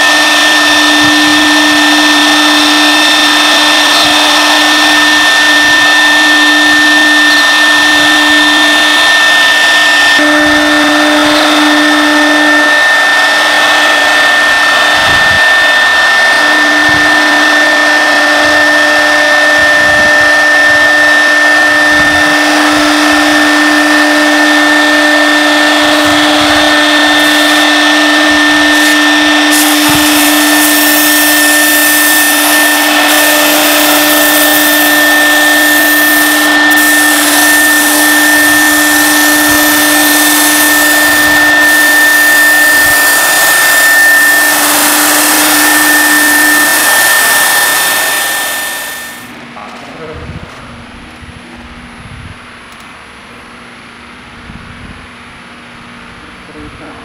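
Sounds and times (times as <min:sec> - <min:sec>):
bit cutting wood: 0:00.0 - 0:49.4
wood router spindle whine: 0:00.0 - 0:57.0.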